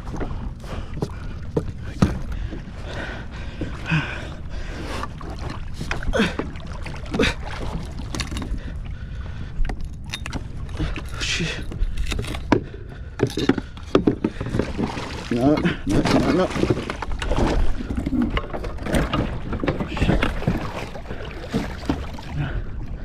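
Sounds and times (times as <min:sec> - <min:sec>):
knocks and rattles on kayak: 0:00.0 - 0:08.8, 0:09.5 - 0:23.0
water sloshing against boat: 0:00.0 - 0:23.0.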